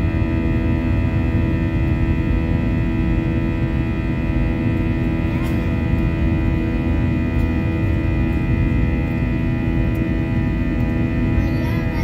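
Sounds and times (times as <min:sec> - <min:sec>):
constant engine hum tones: 0:00.0 - 0:12.0
jet engine cabin rumble: 0:00.0 - 0:12.0.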